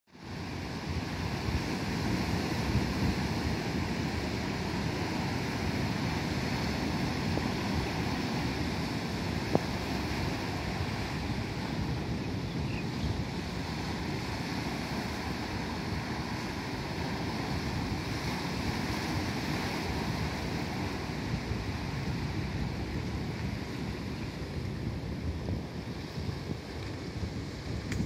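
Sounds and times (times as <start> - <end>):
wind rumbling on microphone: 0.1 - 28.0
ocean surf breaking: 0.2 - 28.0.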